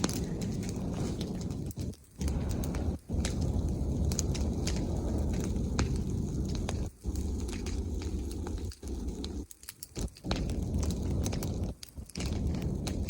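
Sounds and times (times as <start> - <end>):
fire crackling and popping: 0.0 - 13.0
low fire rumble: 0.0 - 13.0.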